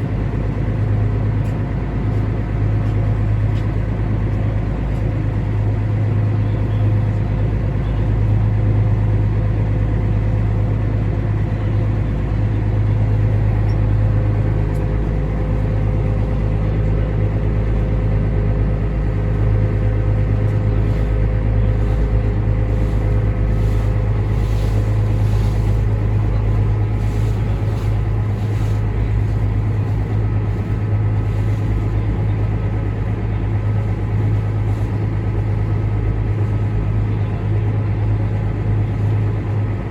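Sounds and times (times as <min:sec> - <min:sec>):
ferry engine deep hum: 0:00.0 - 0:39.9.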